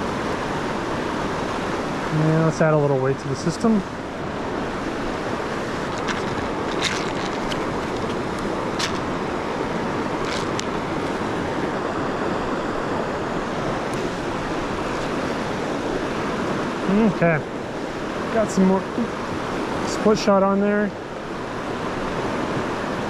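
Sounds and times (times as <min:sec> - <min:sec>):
river rushing over boulders: 0:00.0 - 0:23.0.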